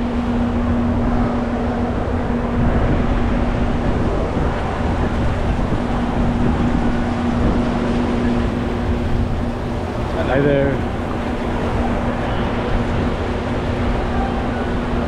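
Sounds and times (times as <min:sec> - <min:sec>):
ship machinery hum: 0:00.0 - 0:15.0
wind buffeting microphone: 0:00.0 - 0:15.0.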